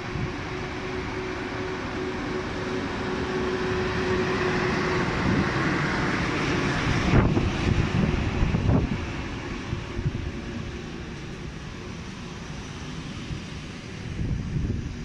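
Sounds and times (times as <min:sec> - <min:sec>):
electric locomotive hum: 0:00.0 - 0:15.0
wheels rumbling and hissing on rail: 0:00.0 - 0:15.0.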